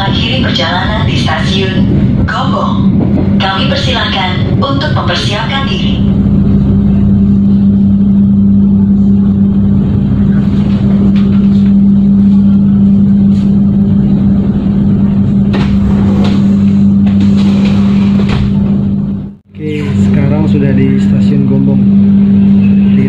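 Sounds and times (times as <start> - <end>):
train carriage hum and rumble: 0.0 - 23.0.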